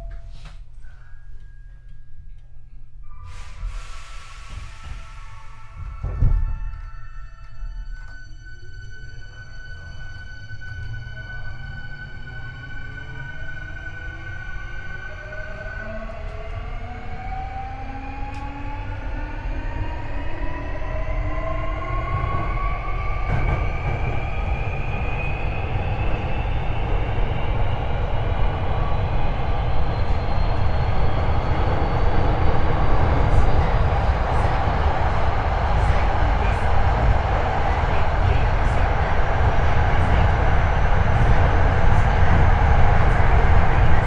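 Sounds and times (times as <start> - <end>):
train wheel and running noise: 0.0 - 44.0
train inverter and motors whining: 4.2 - 44.0.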